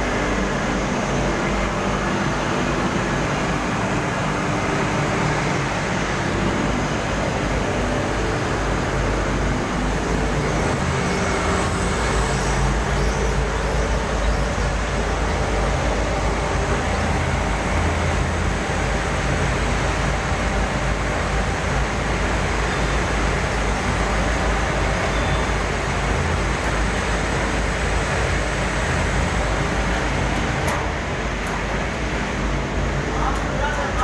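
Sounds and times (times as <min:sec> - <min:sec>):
furnace roaring: 0:00.0 - 0:34.0.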